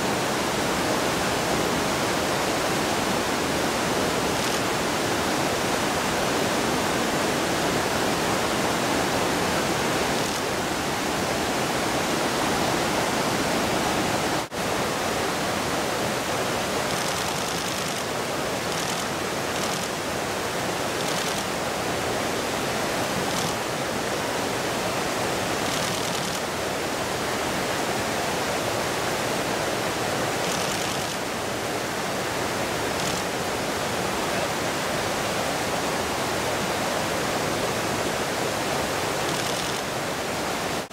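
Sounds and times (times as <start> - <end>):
fast-flowing river water: 0.0 - 40.9.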